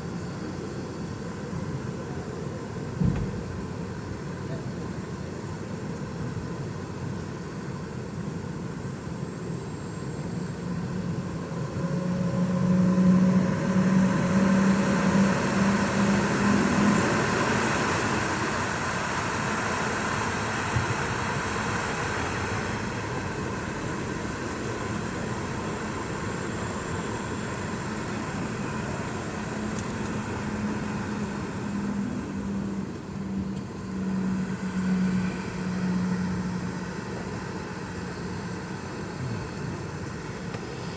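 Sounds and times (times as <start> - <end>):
jet engines rushing with low hum: 0.0 - 40.9.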